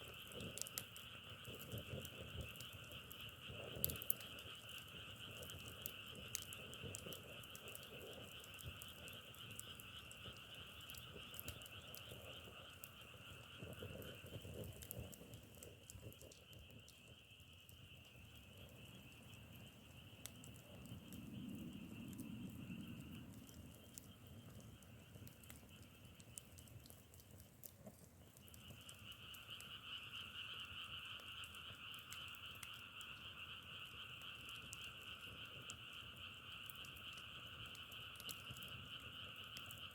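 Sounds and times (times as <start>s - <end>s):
firewood crackling: 0.0s - 39.9s
frogs calling: 0.1s - 26.7s, 28.4s - 39.9s.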